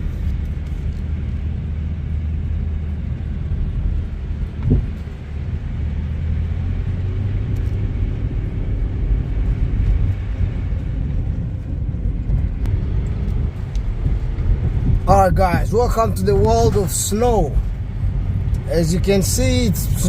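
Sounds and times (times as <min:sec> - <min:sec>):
car engine: 0:00.0 - 0:20.0
road noise: 0:00.0 - 0:20.0.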